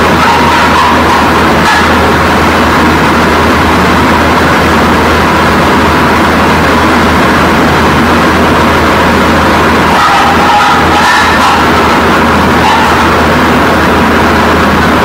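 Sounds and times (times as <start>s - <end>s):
constant low hum: 0.0s - 15.0s
loud rushing noise: 0.0s - 15.0s.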